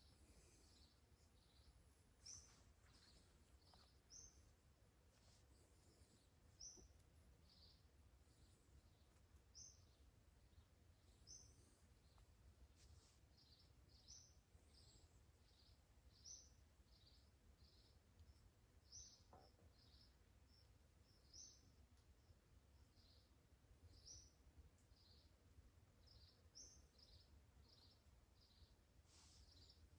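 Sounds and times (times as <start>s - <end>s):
faint bird chirping: 0.0s - 29.9s.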